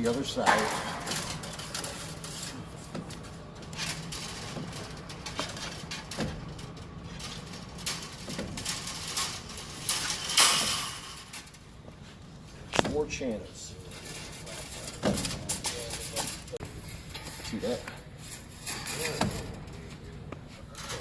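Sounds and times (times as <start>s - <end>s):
metal wires scraping and clinking: 0.0s - 21.0s.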